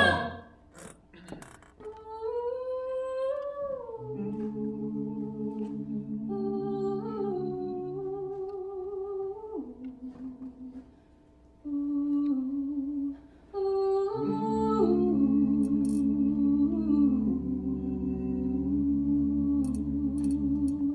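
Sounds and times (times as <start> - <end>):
a cappella vocal ensemble: 0.0 - 0.9, 1.8 - 11.0, 11.6 - 20.9.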